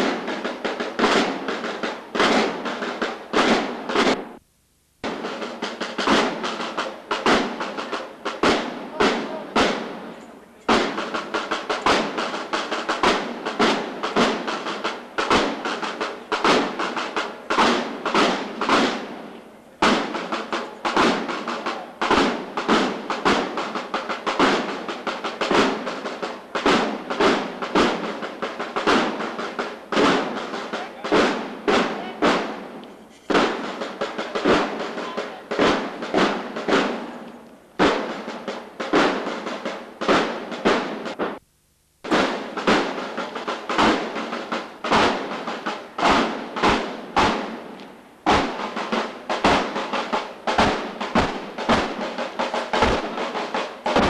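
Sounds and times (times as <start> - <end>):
snare drums marching cadence: 0.0 - 54.0.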